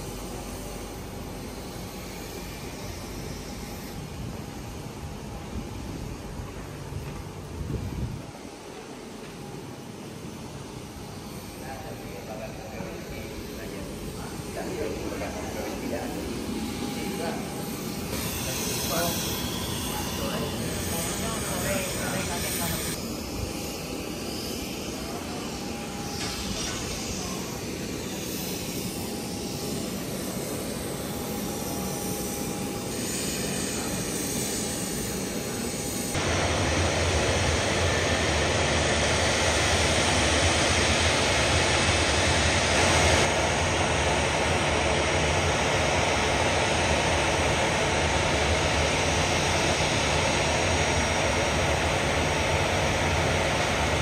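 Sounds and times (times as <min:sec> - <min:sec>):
jet engine rush: 0:00.0 - 0:54.0
thin high whine: 0:09.5 - 0:54.0.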